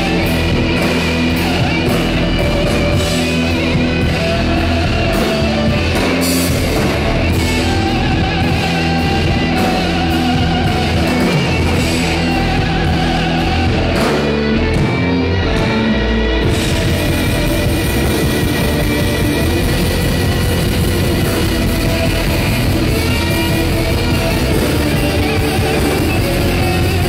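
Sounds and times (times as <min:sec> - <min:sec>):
bass guitar: 0:00.0 - 0:27.0
drum kit: 0:00.0 - 0:27.0
electric guitars: 0:00.0 - 0:27.0.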